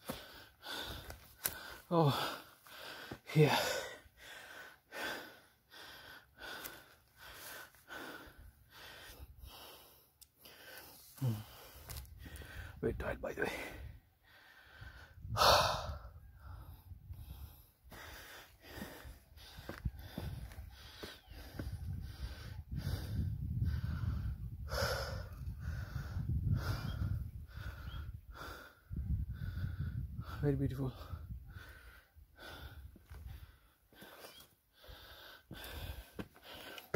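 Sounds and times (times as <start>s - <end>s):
person breathing hard: 0.0s - 12.8s, 13.5s - 36.9s.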